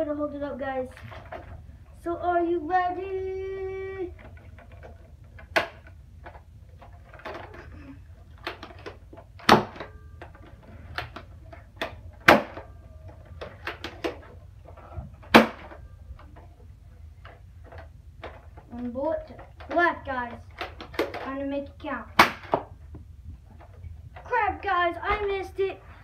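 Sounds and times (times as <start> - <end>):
sharp plastic clacks: 4.0 - 25.7.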